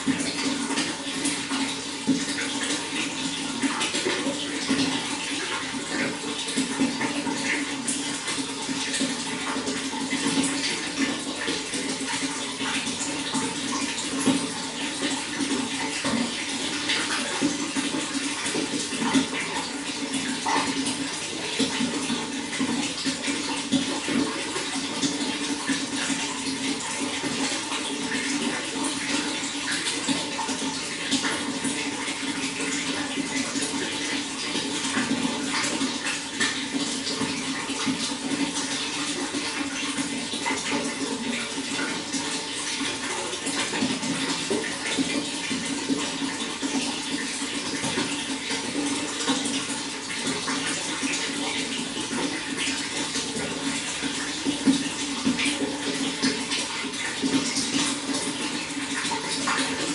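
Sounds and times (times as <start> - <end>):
running water with splashes: 0.0 - 59.9.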